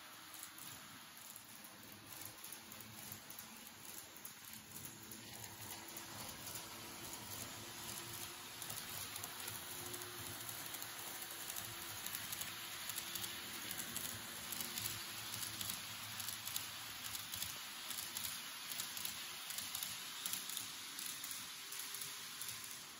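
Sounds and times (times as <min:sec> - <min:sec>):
faint motor hum: 0:00.0 - 0:22.9
model train wheels rattling: 0:00.0 - 0:22.9.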